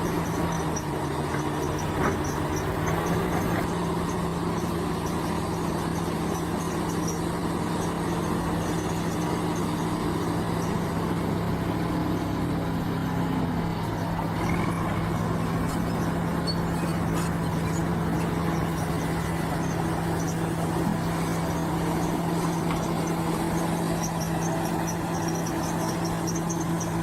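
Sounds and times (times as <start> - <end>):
diesel engine running steadily: 0.0 - 27.0.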